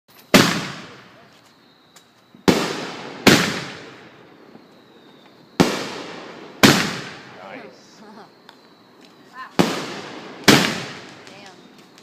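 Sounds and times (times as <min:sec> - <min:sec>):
fireworks bangs: 0:00.2 - 0:12.0.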